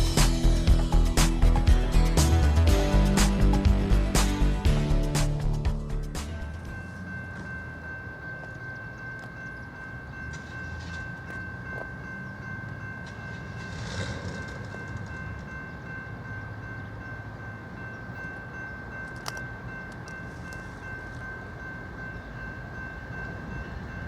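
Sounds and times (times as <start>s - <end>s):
diesel locomotives rumbling: 0.0s - 24.0s.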